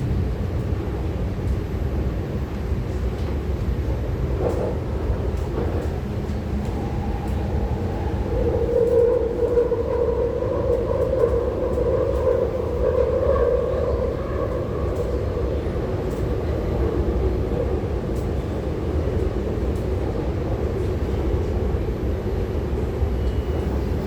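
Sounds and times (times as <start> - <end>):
drawn-out train whine: 0.0 - 24.0
train running gear rumble: 0.0 - 24.0.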